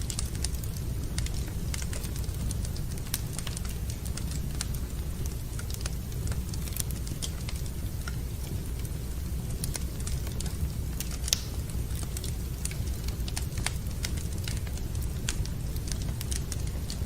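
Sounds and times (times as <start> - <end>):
low rumble of fire: 0.0 - 17.0
wood fire crackling: 0.0 - 17.0.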